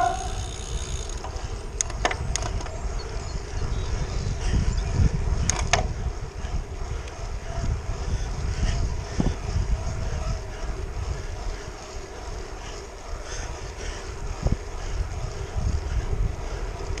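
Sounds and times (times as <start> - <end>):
bicycle tyres on wet road: 0.0 - 17.0
wind rumbling on microphone: 0.0 - 17.0.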